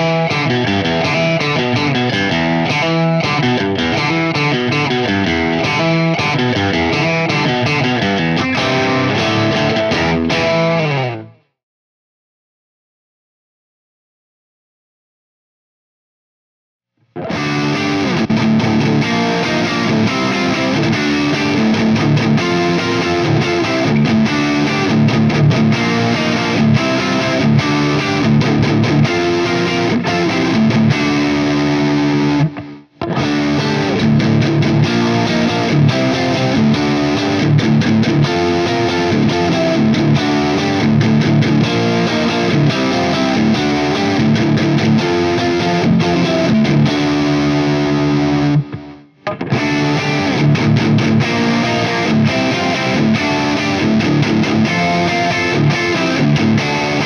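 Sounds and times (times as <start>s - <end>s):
overdriven electric guitar: 0.0s - 11.6s, 17.0s - 57.0s.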